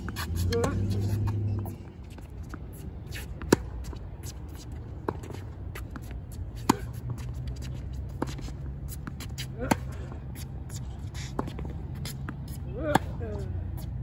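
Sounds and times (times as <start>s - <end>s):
racket hitting tennis ball: 0.0s - 1.8s, 2.5s - 13.4s.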